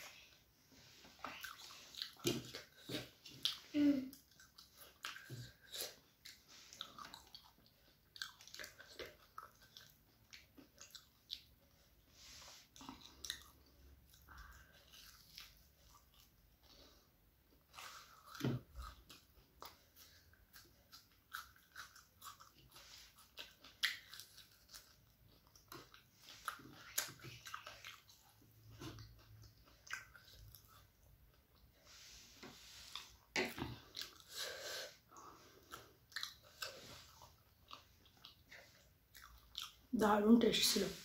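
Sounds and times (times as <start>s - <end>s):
soft crunchy chewing: 0.0s - 41.0s.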